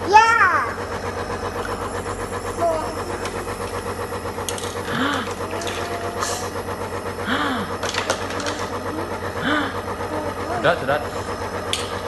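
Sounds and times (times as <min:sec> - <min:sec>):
nebulizer motor humming: 0:00.0 - 0:12.0.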